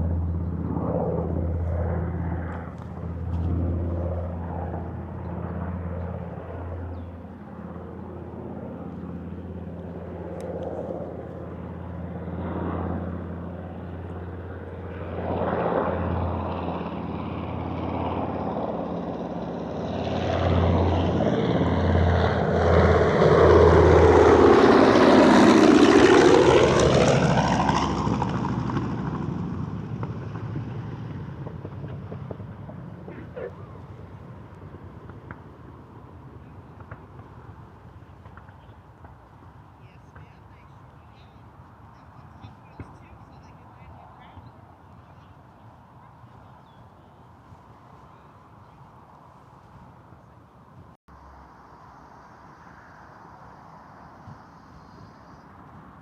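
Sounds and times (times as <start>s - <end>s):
propeller plane engines droning: 0.0s - 56.0s.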